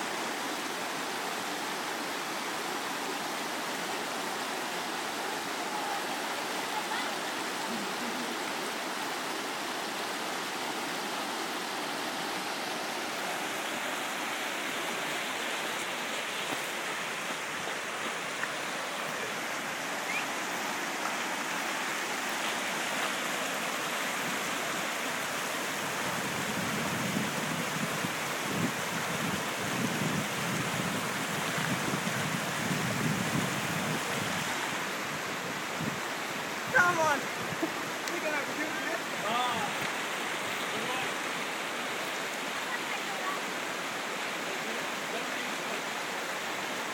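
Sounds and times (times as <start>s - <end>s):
water rushing over rocks: 0.0s - 46.9s.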